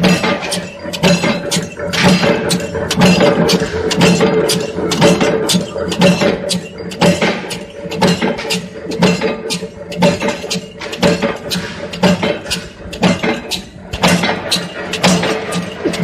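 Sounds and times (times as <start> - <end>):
machine stamping stroke: 0.0 - 16.0
motor hum: 0.0 - 16.0.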